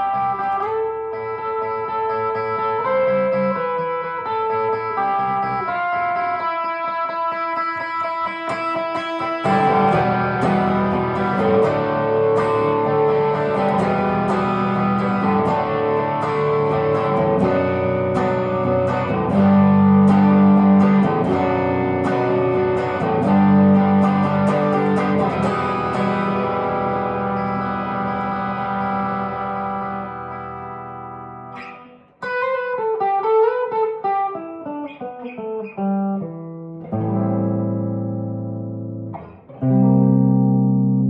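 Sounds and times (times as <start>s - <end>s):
electric guitar through amplifier: 0.0s - 41.0s.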